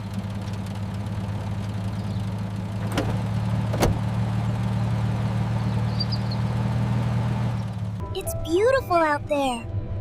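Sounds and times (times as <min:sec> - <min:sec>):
car engine hum from inside: 0:00.0 - 0:08.0.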